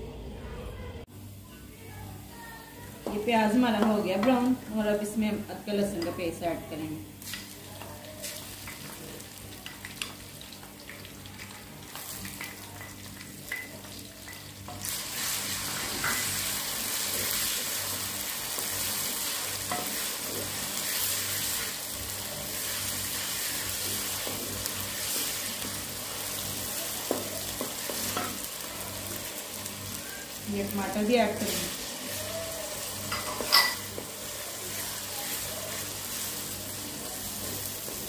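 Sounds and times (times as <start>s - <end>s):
food sizzling in a pot: 1.2s - 38.0s.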